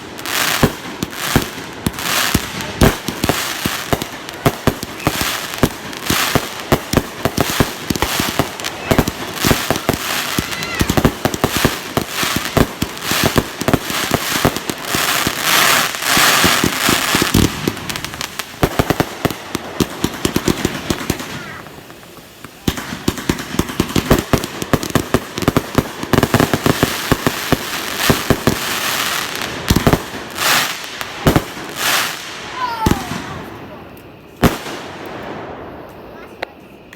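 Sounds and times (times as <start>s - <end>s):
fireworks popping and crackling: 0.0s - 36.9s.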